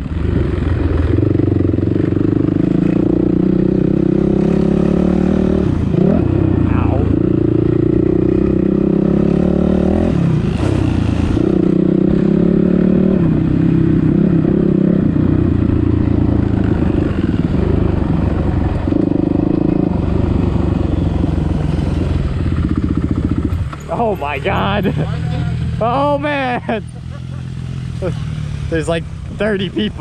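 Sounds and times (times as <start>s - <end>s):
dirt bike engine revving: 1.0s - 30.0s.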